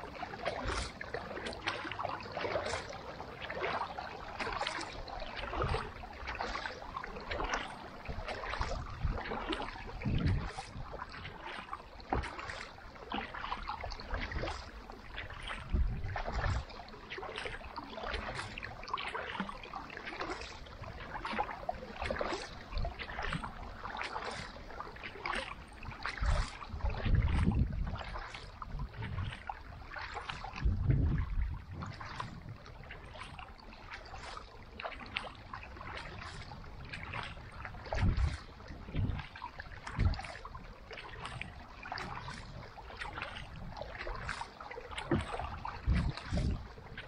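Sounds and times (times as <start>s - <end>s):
paddle splashing in water: 0.0s - 47.0s
water lapping: 0.0s - 47.0s.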